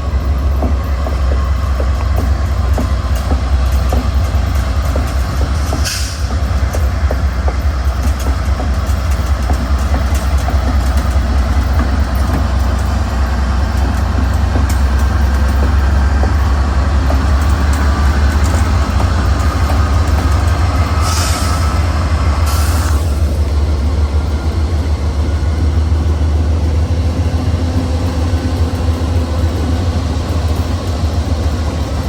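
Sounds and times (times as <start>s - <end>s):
freight train rumbling on rails: 0.0s - 32.0s.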